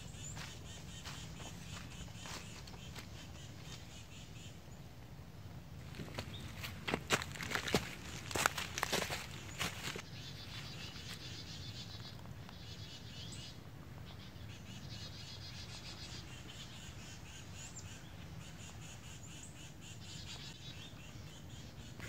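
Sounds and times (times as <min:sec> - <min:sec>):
birds trilling: 0:00.0 - 0:05.0, 0:05.8 - 0:22.0.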